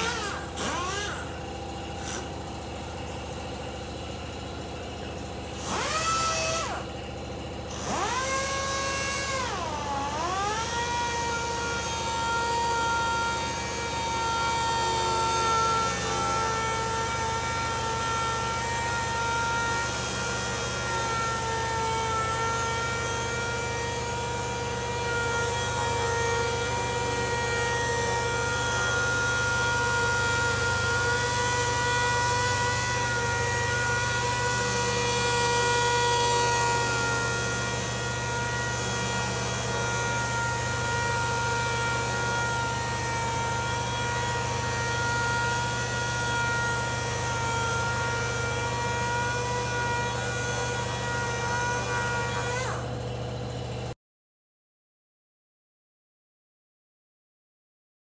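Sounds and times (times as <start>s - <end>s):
palm sander whining on wood: 0.0s - 54.0s.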